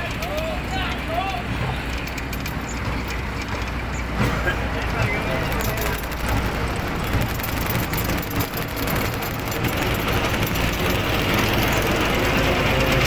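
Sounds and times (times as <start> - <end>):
harvester engine running: 0.0 - 13.0.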